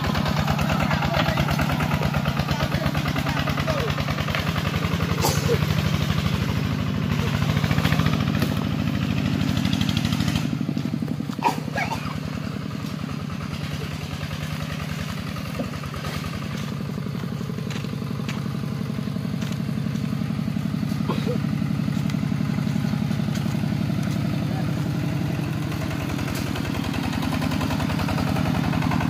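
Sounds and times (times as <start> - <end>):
tractor diesel engine chugging: 0.0 - 29.0.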